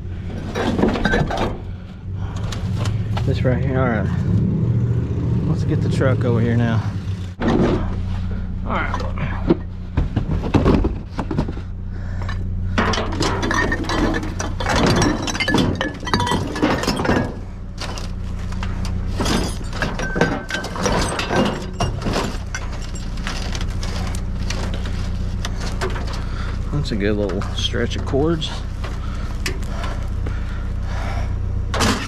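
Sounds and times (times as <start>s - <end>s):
low engine hum: 0.0s - 32.0s
scrap metal clattering: 0.2s - 3.1s, 7.4s - 30.8s, 31.7s - 32.0s.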